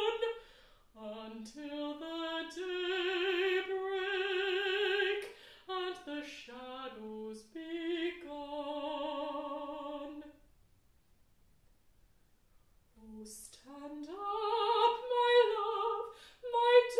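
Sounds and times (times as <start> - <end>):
woman singing with vibrato: 0.0 - 0.4, 1.0 - 10.4, 13.0 - 16.9.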